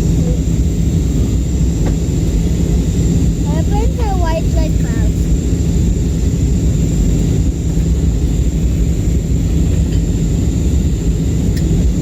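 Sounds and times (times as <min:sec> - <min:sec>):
low rumble of engines and airflow: 0:00.0 - 0:12.0.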